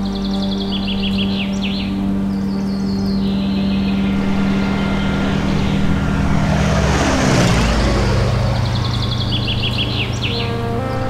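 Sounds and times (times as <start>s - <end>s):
aircraft passing overhead: 0.0s - 11.0s.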